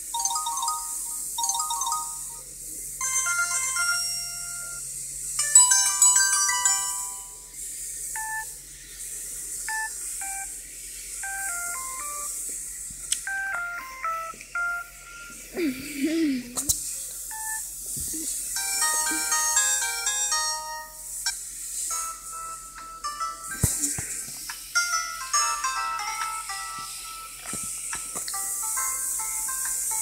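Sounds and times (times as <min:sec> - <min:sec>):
mobile phone ringtone melodies: 0:00.1 - 0:07.5, 0:08.1 - 0:08.6, 0:09.7 - 0:10.6, 0:11.2 - 0:12.5, 0:13.2 - 0:16.2, 0:17.3 - 0:24.0, 0:24.7 - 0:30.0.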